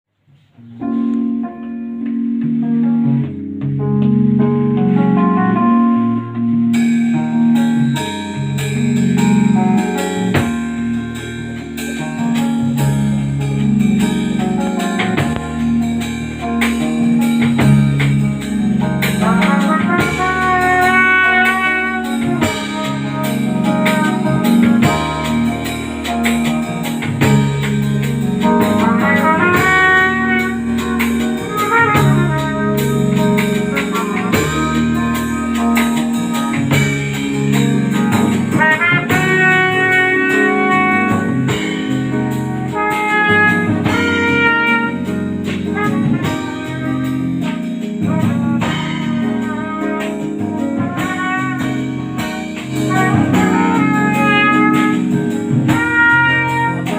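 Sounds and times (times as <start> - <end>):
jazz band playing: 0.4 - 56.9.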